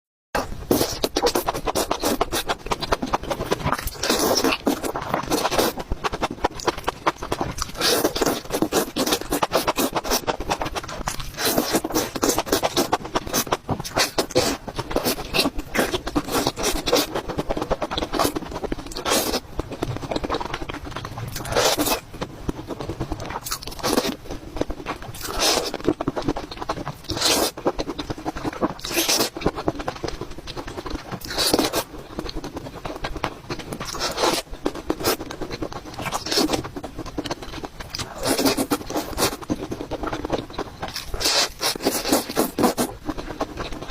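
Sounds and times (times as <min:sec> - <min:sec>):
chewing food crackling: 0:00.4 - 0:43.9.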